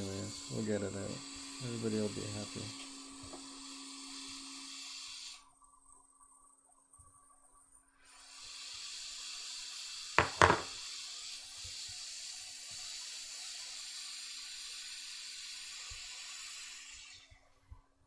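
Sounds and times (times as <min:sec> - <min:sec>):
hot air station hissing: 0:00.0 - 0:05.5, 0:08.0 - 0:17.6.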